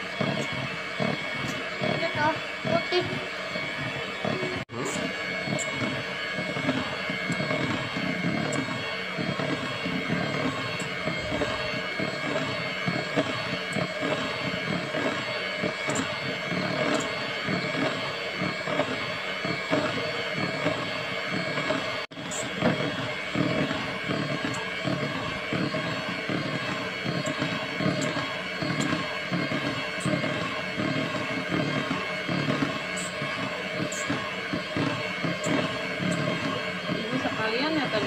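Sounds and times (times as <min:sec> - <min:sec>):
electric hand mixer whisking batter: 0:00.0 - 0:38.0.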